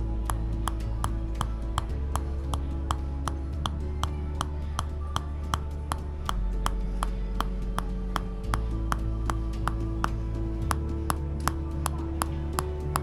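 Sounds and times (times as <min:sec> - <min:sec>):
background music with low notes: 0:00.0 - 0:13.0
wooden mallet tapping on wood: 0:00.0 - 0:13.0.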